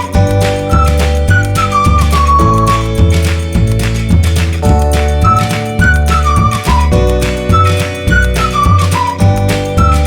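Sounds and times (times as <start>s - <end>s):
upbeat whistled melody with beat: 0.0s - 10.0s.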